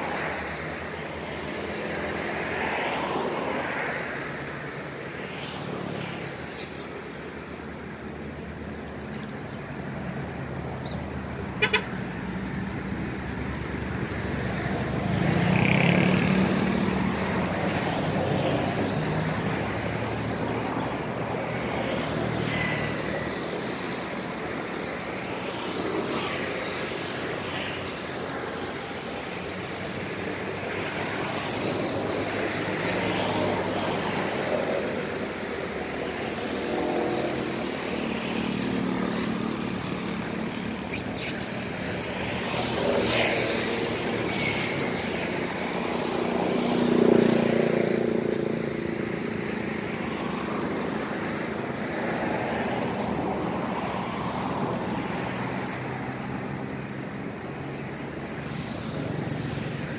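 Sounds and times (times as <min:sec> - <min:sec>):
passing road traffic: 0:00.0 - 0:59.9.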